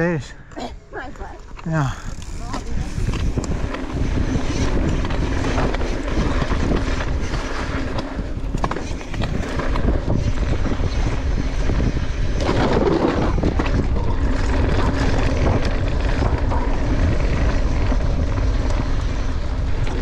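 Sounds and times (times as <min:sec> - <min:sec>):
wind buffeting microphone: 0:00.0 - 0:20.0
bike rattles and knocks: 0:01.5 - 0:20.0
bike tyre rumble on dirt: 0:01.5 - 0:20.0.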